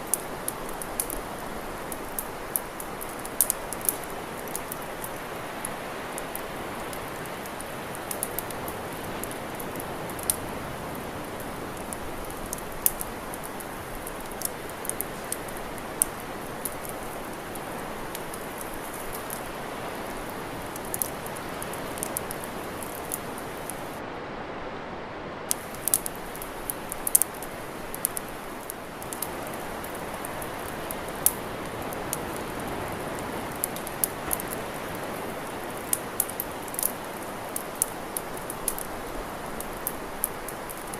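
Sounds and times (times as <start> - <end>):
campfire crackling and popping: 0.0 - 24.0, 25.5 - 40.9.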